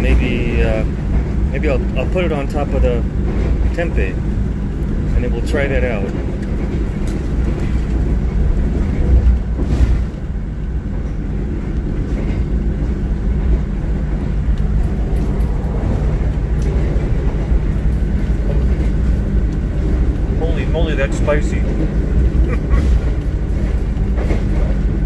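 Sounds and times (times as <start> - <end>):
train rumbling inside carriage: 0.0 - 25.0.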